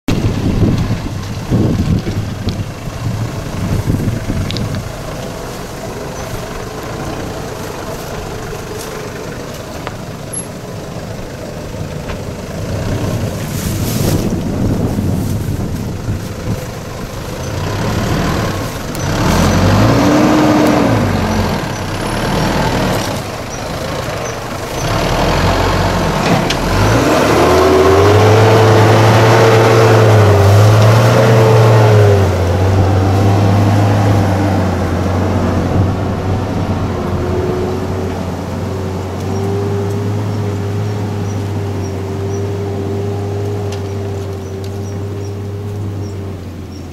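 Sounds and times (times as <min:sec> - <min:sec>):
suv engine revving: 0:00.1 - 0:46.9.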